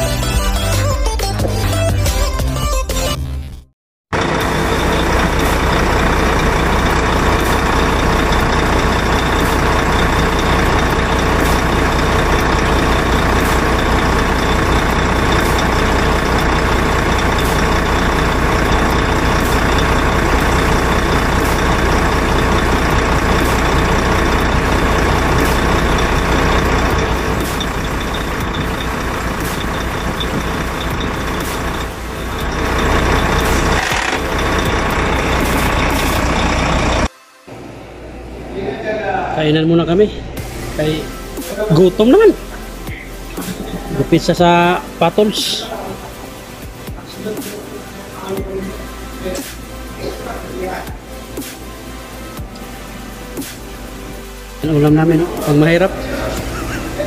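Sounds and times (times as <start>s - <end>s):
truck diesel engine running: 4.1s - 38.5s, 40.2s - 57.0s.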